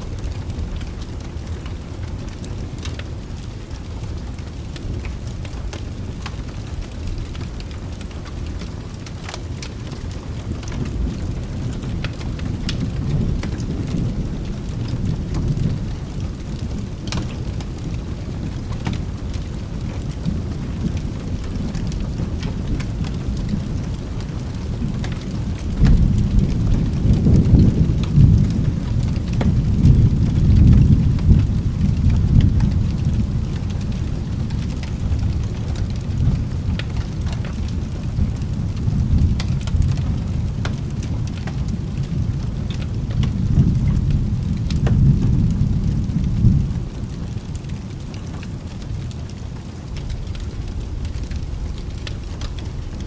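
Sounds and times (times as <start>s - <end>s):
steady rain: 0.0s - 53.0s
thunder rumbling: 0.0s - 53.0s.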